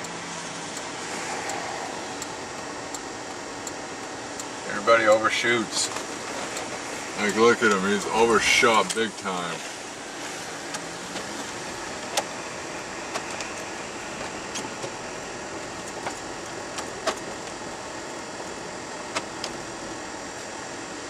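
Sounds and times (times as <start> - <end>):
heater fan hiss: 0.0 - 21.0
truck idling: 0.0 - 21.0.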